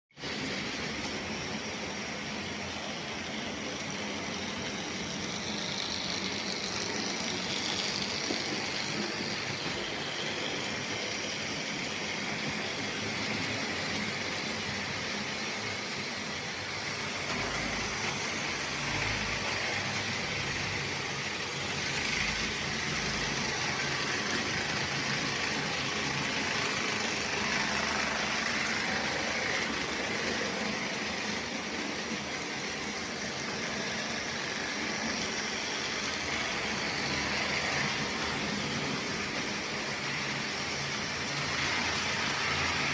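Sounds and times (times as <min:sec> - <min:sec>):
model train whirring on track: 0:00.1 - 0:42.9.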